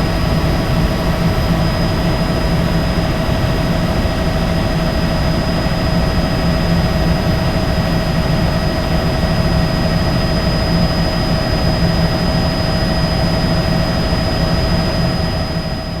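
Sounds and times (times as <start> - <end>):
helicopter engine whine: 0.0 - 16.0.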